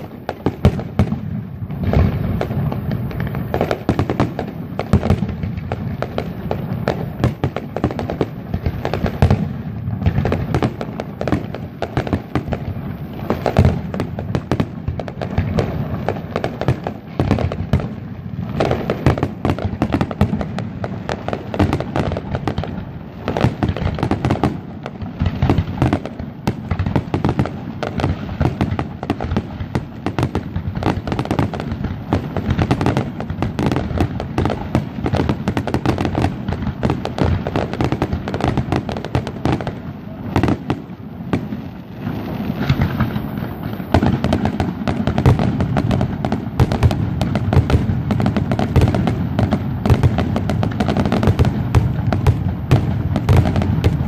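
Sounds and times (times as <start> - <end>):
fireworks exploding: 0.0 - 54.0.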